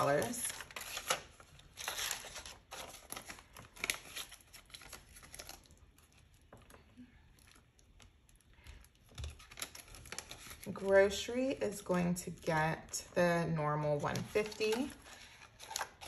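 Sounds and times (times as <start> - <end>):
banknotes and envelopes rustling: 0.0 - 6.9, 8.1 - 16.0.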